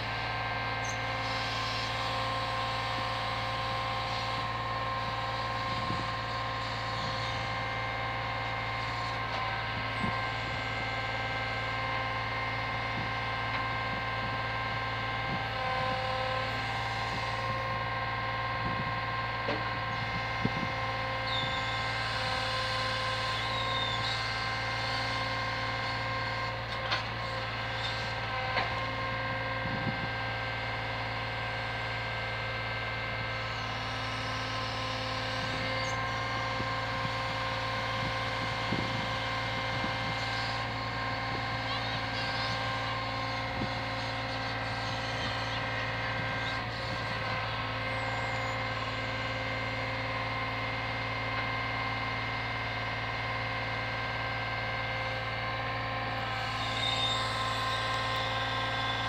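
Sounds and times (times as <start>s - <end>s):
lorry engine droning: 0.0s - 59.0s.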